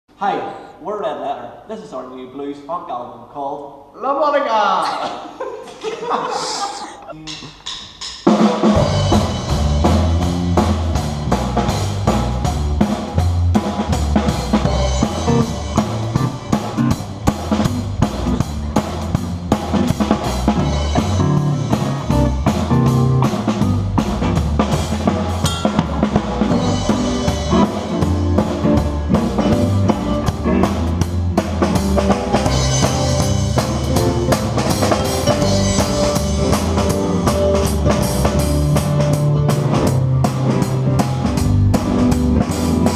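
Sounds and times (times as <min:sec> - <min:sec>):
bass drum and snare beats: 0:07.3 - 0:42.9
live blues band playing: 0:08.3 - 0:42.9.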